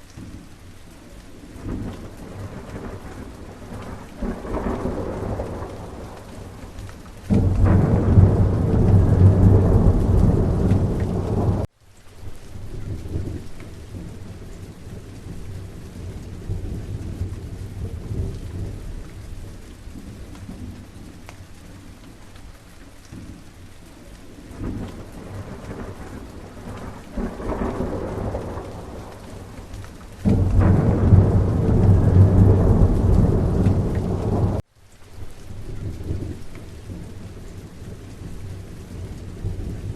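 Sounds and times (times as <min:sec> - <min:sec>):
rain falling: 0:00.0 - 0:39.9
thunder rumbling: 0:01.5 - 0:11.7, 0:12.5 - 0:21.2, 0:24.5 - 0:34.6, 0:35.5 - 0:39.9.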